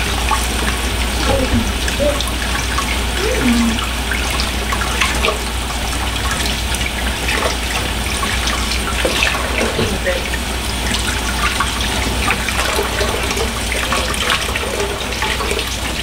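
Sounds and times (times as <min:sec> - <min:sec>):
faucet running into a sink: 0:00.0 - 0:16.0.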